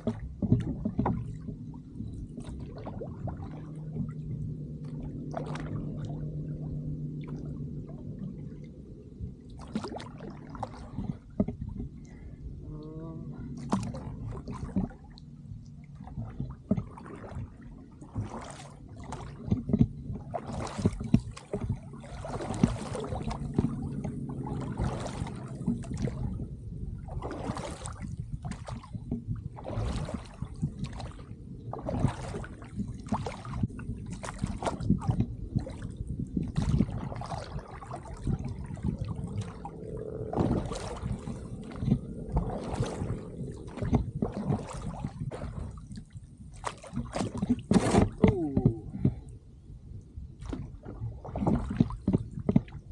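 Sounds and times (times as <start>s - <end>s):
oars splashing in water: 0.0s - 12.4s, 13.3s - 49.4s, 50.4s - 52.9s.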